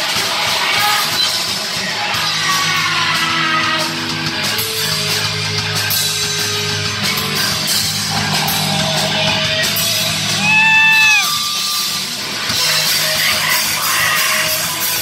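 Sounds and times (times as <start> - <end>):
loud rock band playing: 0.0 - 15.0.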